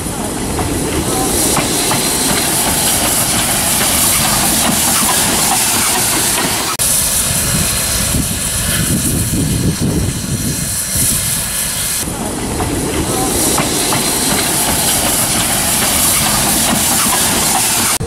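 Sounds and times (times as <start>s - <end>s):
low engine and track rumble: 0.0s - 18.0s
steam locomotive hissing steam: 0.0s - 18.0s.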